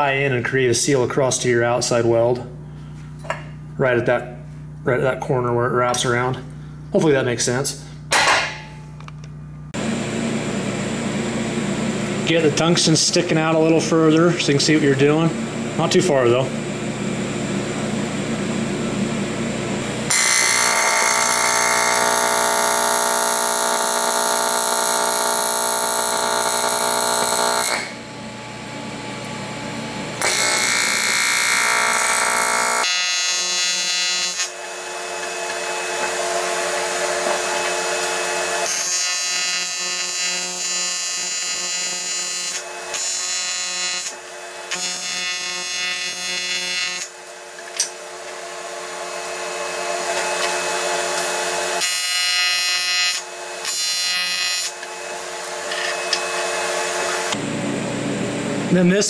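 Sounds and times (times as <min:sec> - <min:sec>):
welding arc buzzing: 0:07.4 - 0:59.0.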